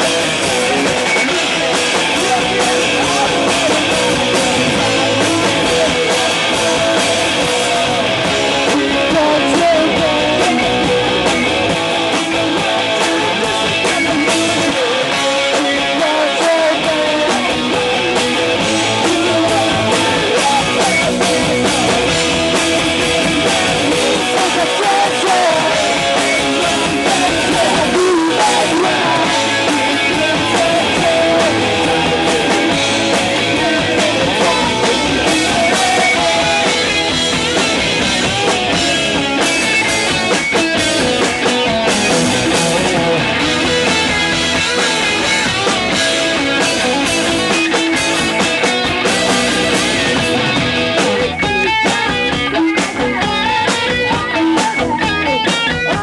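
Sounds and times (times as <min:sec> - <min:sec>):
punk rock band with electric guitar: 0:00.0 - 0:56.0.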